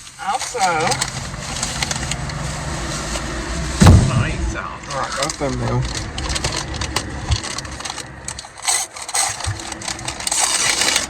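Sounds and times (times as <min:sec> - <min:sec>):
food packaging rustling: 0:00.0 - 0:04.2, 0:04.8 - 0:11.0.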